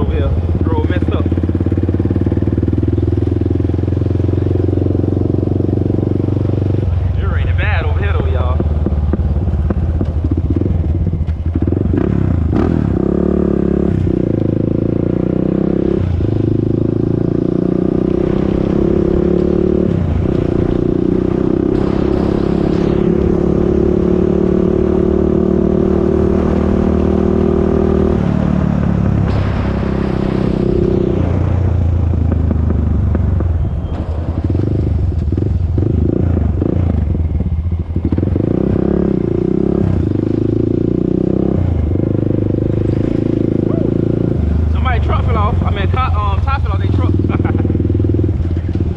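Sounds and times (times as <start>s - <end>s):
atv engine running: 0.0s - 48.9s.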